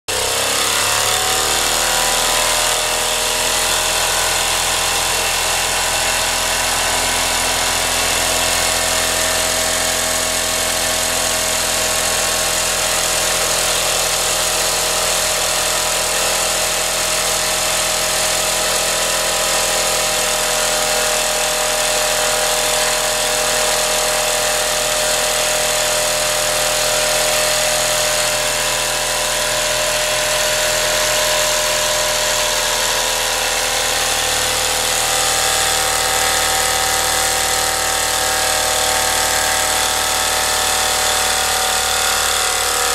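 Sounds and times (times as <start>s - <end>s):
model steam engine running: 0.1s - 42.9s.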